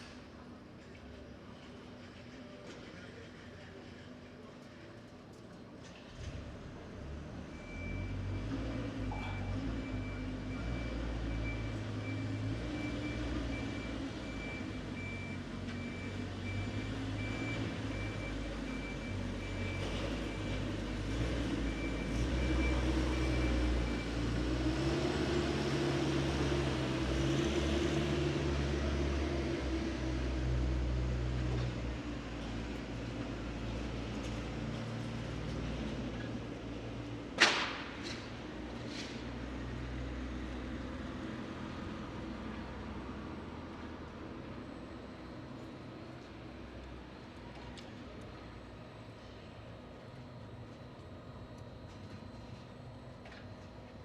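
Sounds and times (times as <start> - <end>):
diesel construction machinery: 0.0 - 54.0.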